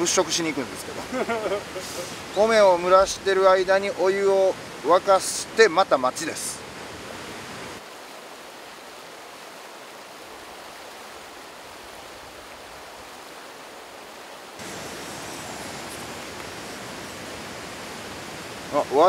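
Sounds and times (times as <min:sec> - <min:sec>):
mountain river rushing: 0:00.0 - 0:19.0.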